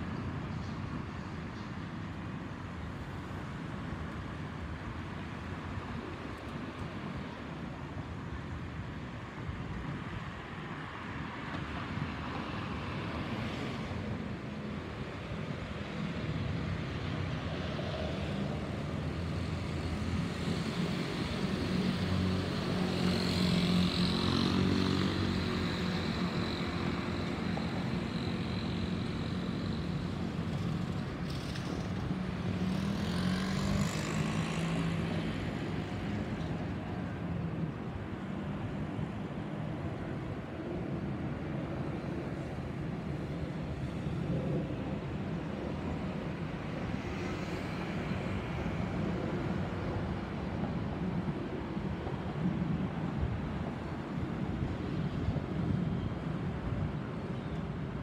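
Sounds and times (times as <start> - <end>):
jet engine rumble overhead: 0.0 - 58.0.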